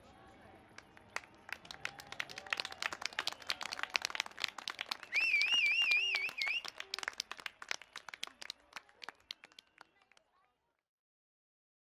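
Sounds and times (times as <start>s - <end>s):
crowd clapping: 0.7s - 10.4s.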